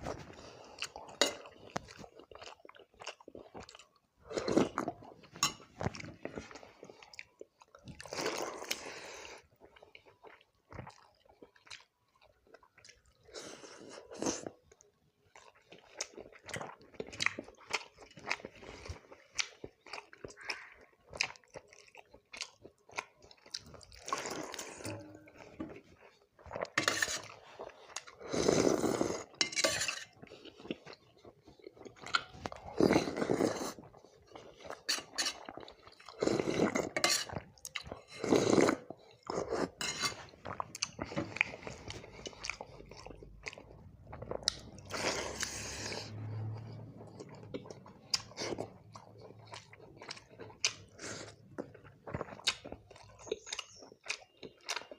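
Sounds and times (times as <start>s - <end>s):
person chewing and crunching food: 0.0s - 54.9s.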